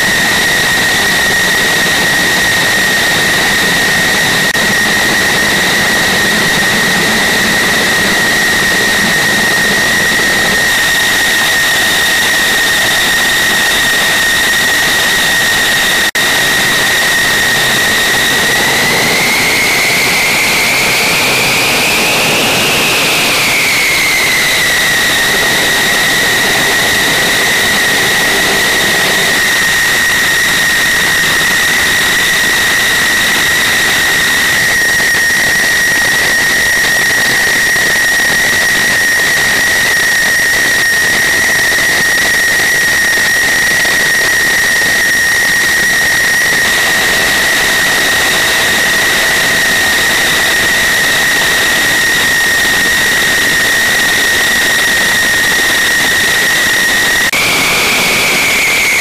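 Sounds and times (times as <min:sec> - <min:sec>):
jet engine idling: 0:00.0 - 0:59.0.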